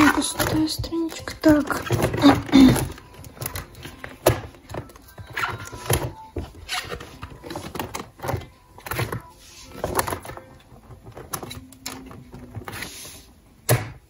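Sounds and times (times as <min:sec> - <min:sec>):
plastic pages rustling and crinkling: 0:00.0 - 0:13.3.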